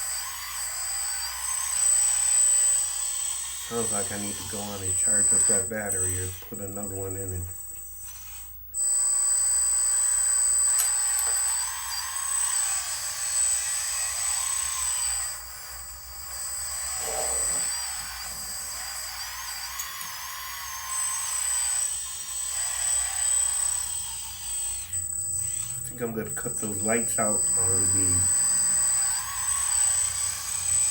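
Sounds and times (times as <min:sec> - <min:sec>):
model excavator motor whining: 0:00.0 - 0:30.9.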